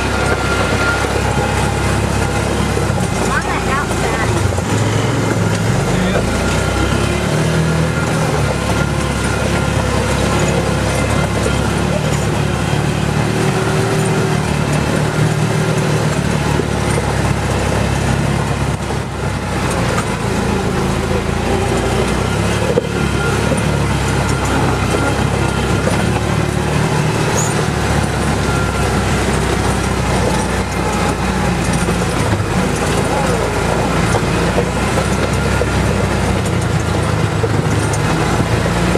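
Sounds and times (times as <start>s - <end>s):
atv engine under load: 0.0s - 38.9s.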